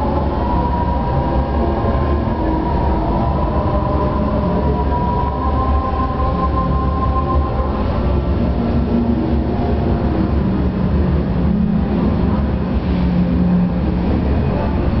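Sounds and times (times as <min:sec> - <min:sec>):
faint humming tones: 0:00.0 - 0:15.0.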